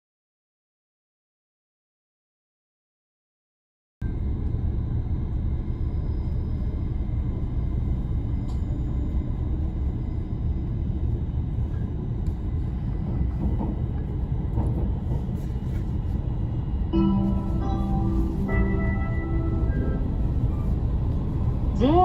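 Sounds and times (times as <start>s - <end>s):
train rumbling: 4.1s - 22.0s.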